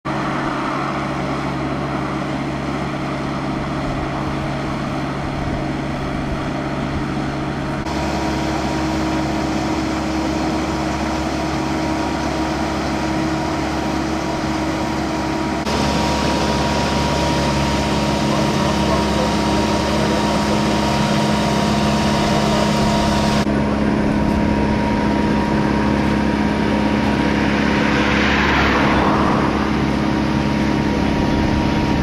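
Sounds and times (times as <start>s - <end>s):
machine engine humming: 0.1s - 32.0s.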